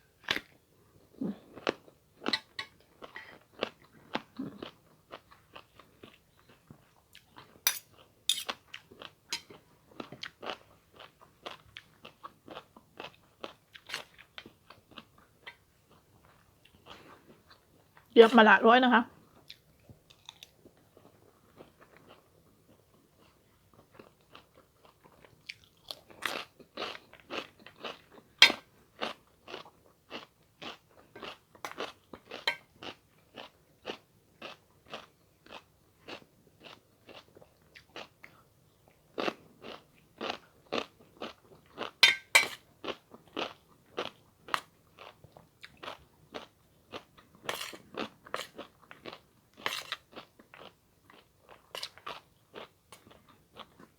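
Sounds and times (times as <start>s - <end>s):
person chewing food: 1.2s - 18.1s, 19.2s - 53.9s.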